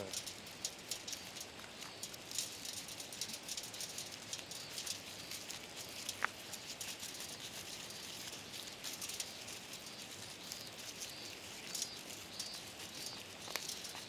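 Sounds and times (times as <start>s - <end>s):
seeds clicking and rustling: 0.0s - 14.0s.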